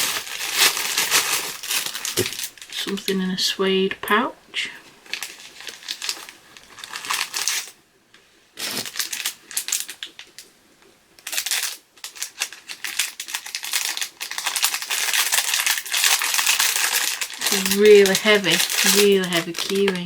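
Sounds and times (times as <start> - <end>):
packaging rustling and crinkling: 0.0 - 3.1, 4.8 - 7.8, 8.6 - 10.5, 11.2 - 20.0.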